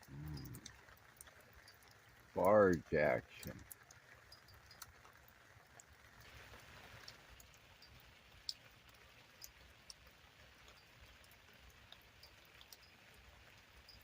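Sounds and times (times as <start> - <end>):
light rain hiss: 0.0 - 14.0
rain drips and ticks: 0.0 - 14.0.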